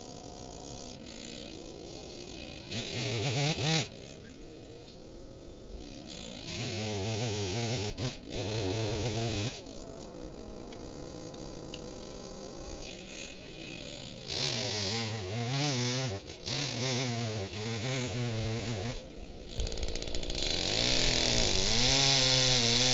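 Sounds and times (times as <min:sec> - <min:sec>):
chainsaw idling and revving: 0:00.0 - 0:22.9.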